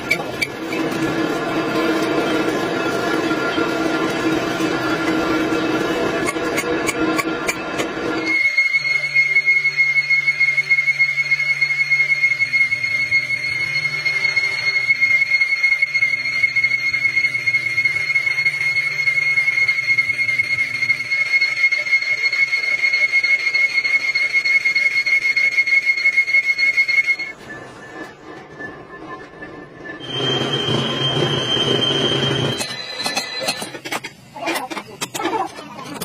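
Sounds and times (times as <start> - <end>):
lathe tool high-pitched whine: 0.0 - 34.8.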